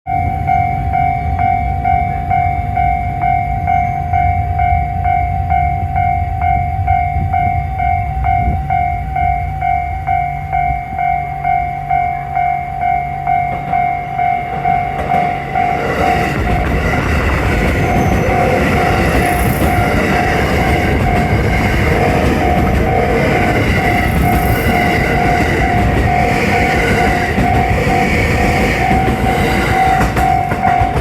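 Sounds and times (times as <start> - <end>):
approaching train: 0.1 - 31.0
level-crossing alarm bell: 0.1 - 31.0.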